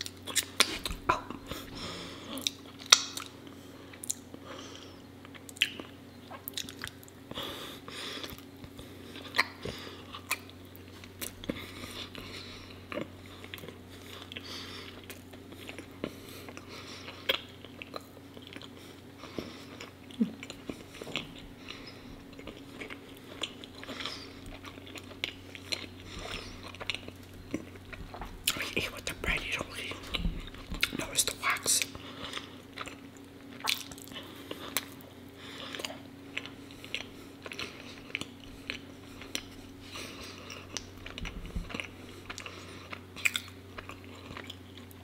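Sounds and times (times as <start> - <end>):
person chewing with sticky smacks: 0.0 - 45.0.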